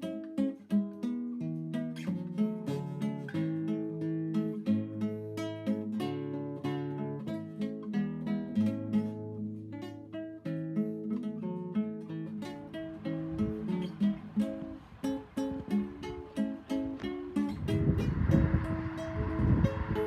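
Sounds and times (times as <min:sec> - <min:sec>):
acoustic guitar plucking: 0:00.0 - 0:20.0.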